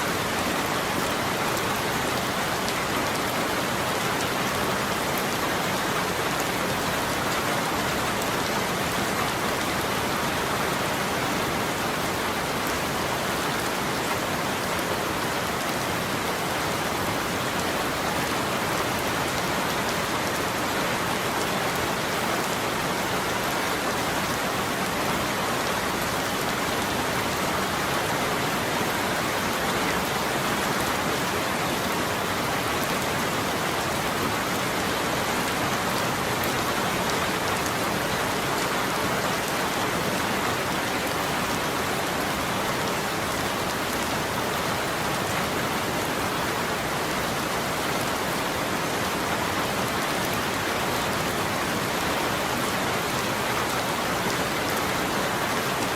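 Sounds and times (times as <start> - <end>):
steady rain pattering: 0.0 - 55.9.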